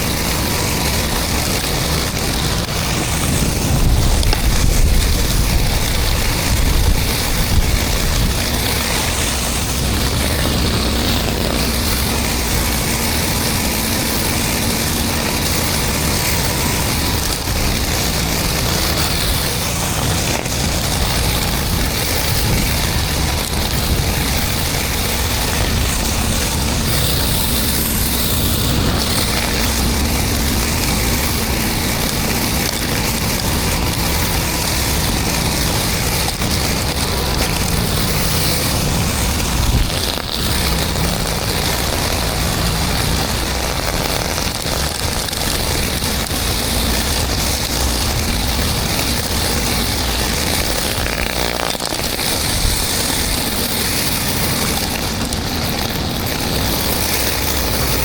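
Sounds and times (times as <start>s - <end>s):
pressure washer engine running: 0.0s - 58.0s
water spraying on concrete: 0.0s - 58.0s.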